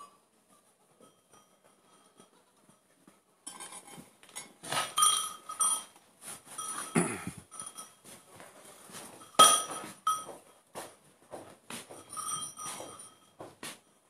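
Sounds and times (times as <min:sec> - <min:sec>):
metallic clinks and jingles: 0:00.8 - 0:08.4, 0:09.0 - 0:10.7, 0:11.9 - 0:14.0.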